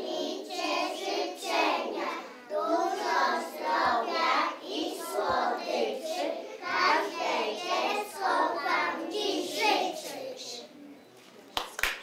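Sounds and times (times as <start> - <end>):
children singing in chorus: 0.0 - 10.6.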